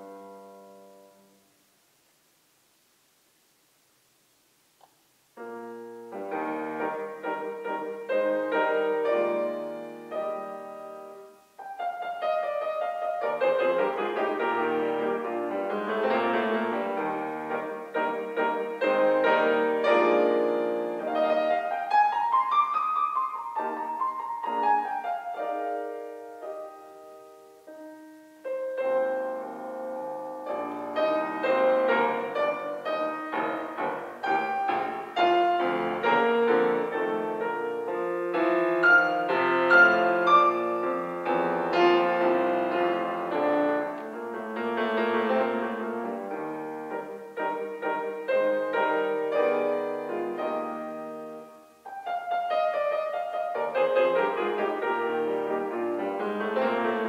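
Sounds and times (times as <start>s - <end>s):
solo classical piano: 0.0s - 2.8s, 4.8s - 57.0s.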